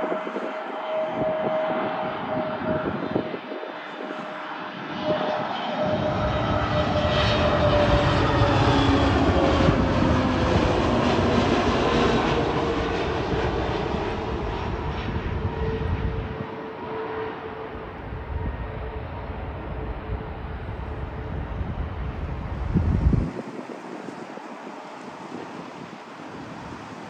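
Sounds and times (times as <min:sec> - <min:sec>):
jet airliner passing low: 0:00.0 - 0:27.0.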